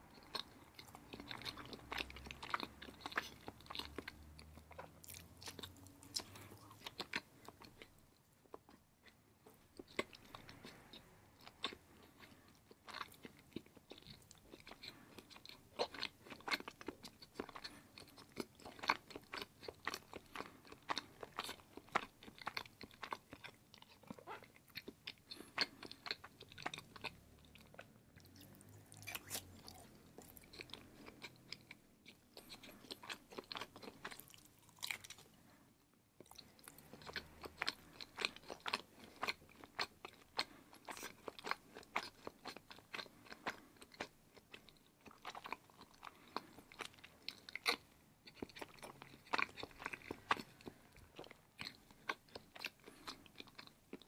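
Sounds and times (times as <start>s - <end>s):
person chewing cheese: 0.0s - 54.0s.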